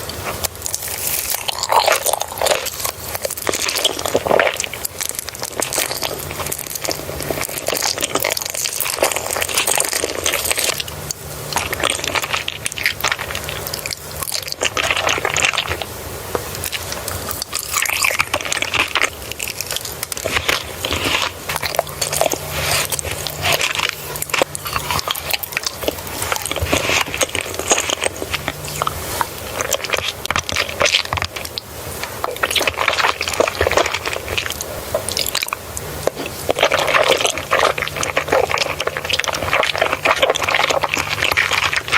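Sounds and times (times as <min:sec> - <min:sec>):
close crunching and chewing: 0:00.0 - 0:41.9.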